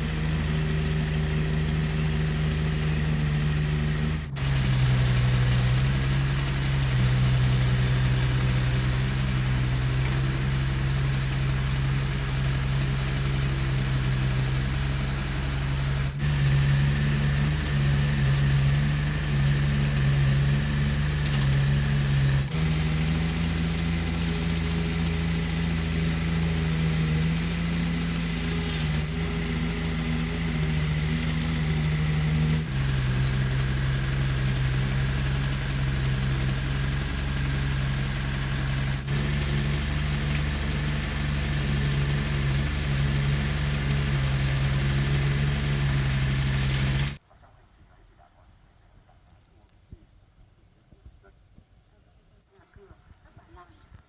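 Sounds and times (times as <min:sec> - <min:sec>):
heavy machine engine running: 0:00.0 - 0:47.2.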